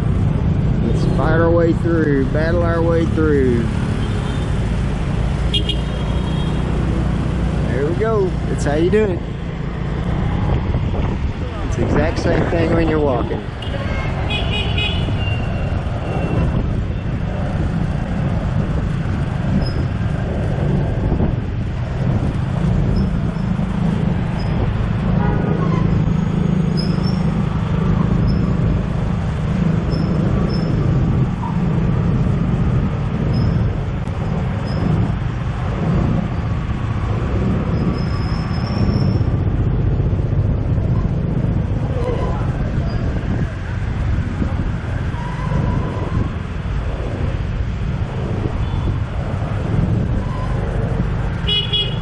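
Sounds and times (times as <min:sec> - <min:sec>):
wind rumble on microphone: 0:00.0 - 0:05.6, 0:06.8 - 0:52.0
city traffic: 0:00.0 - 0:52.0.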